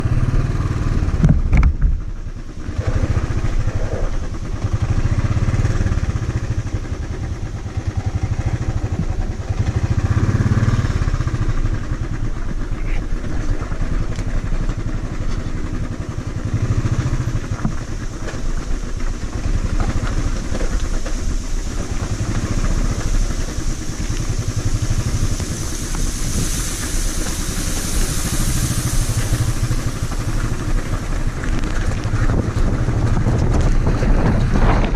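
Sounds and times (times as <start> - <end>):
vehicle engine running: 0.0 - 34.9
high hiss: 2.2 - 33.2.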